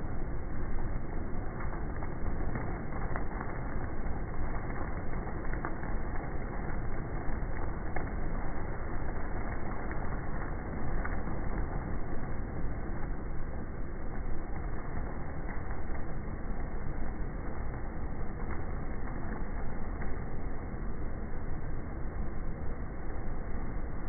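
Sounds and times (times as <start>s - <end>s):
heavy rain: 0.0s - 24.0s
wind: 0.0s - 24.0s.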